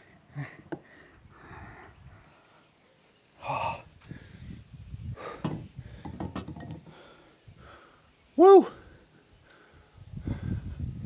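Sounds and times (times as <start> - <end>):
man breathing heavily: 0.0 - 2.8, 3.4 - 11.0.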